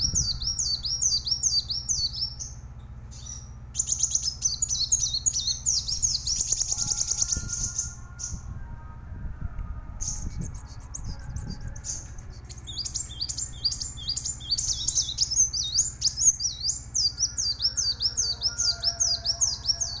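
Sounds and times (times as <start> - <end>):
sunbird singing: 0.0 - 9.0, 9.8 - 20.0
steady low hum: 0.0 - 20.0.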